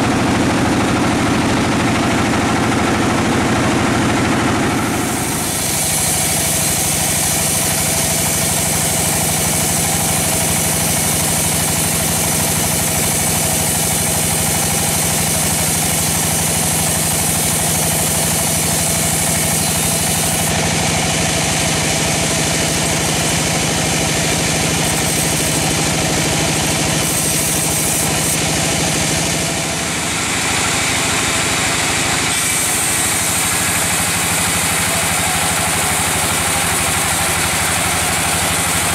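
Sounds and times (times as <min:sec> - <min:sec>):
band saw cutting through log: 0:00.0 - 0:38.9.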